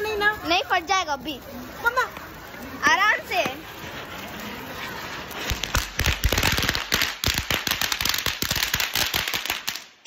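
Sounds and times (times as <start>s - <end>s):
firework crackling pops: 0.0s - 10.0s.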